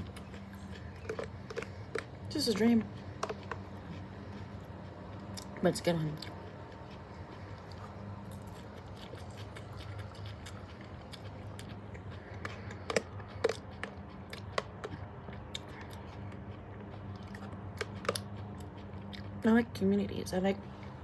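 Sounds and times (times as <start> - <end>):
person chewing food: 0.0 - 19.4
steady low hum: 0.0 - 21.0.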